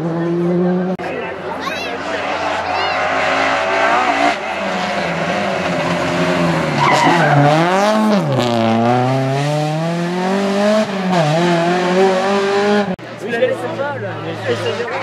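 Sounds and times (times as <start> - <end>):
rally car engine revving: 0.0 - 13.1.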